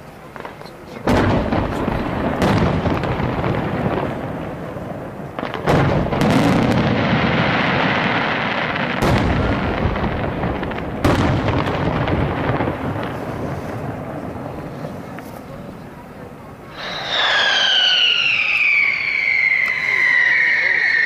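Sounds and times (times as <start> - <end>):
firework shells booming: 0.3 - 15.3, 16.7 - 21.0.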